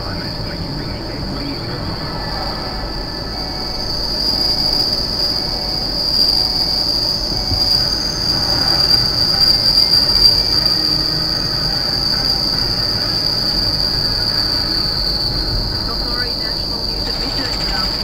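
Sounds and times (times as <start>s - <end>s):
train wheels squealing on rails: 0.0s - 18.0s.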